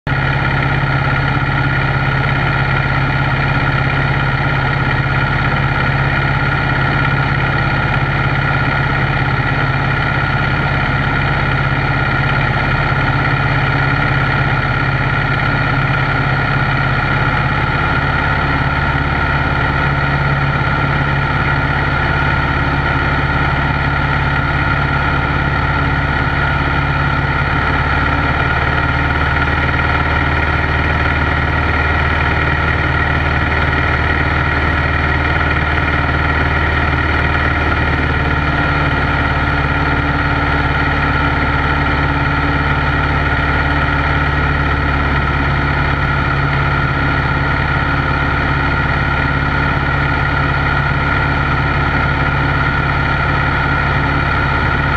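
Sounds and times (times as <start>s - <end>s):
airplane engine and propeller droning: 0.1s - 54.9s.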